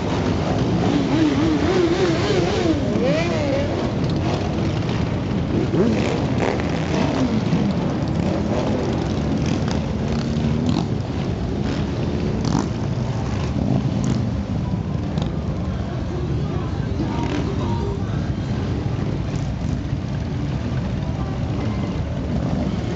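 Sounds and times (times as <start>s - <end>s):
motorcycle revving: 0.0s - 16.0s, 16.7s - 22.9s
many motorcycle engines: 0.0s - 22.9s.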